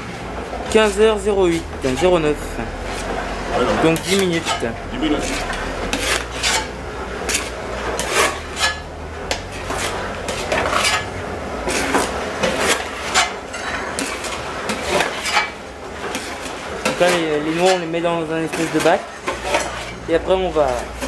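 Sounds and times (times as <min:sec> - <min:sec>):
low machinery hum: 0:00.0 - 0:21.0
metal scraper rasping through meal: 0:01.4 - 0:20.0.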